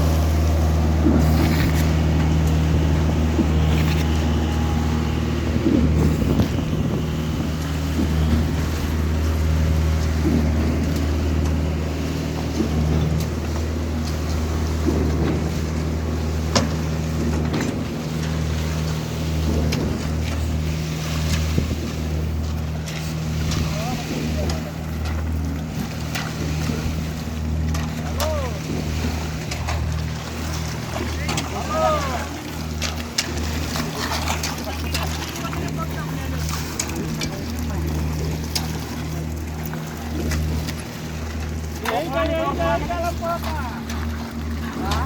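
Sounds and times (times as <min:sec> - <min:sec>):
diesel engine droning: 0:00.0 - 0:45.0.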